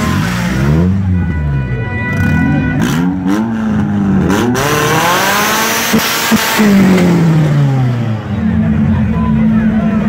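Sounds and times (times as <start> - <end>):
car engine revving: 0.0 - 1.4, 2.1 - 9.3.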